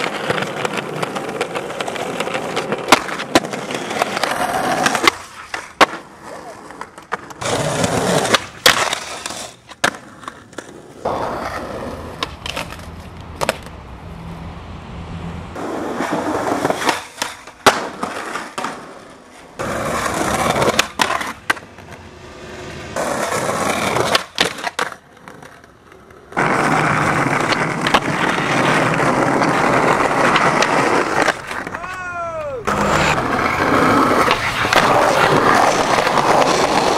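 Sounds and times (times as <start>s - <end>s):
skateboard popping and landing: 0.0s - 13.8s, 15.6s - 36.9s
skateboard wheels rolling on pavement: 0.0s - 36.9s.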